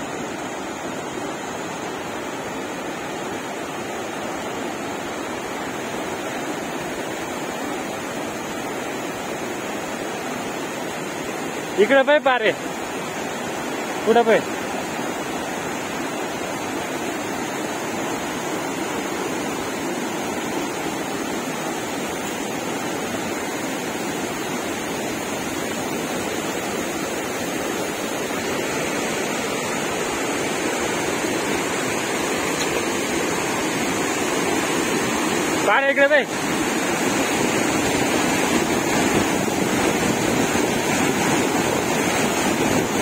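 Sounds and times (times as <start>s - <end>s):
water rushing and tumbling: 0.0s - 43.0s.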